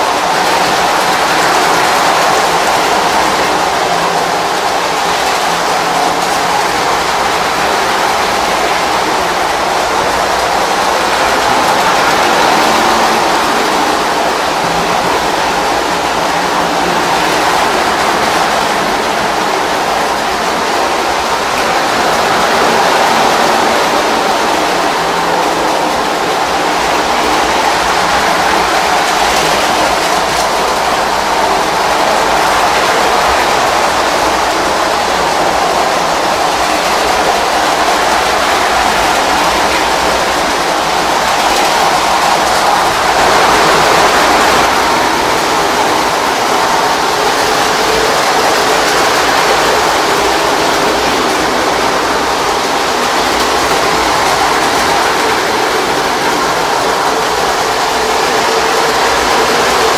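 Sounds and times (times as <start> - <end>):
wheels rumbling on metal rail: 0.0 - 59.9.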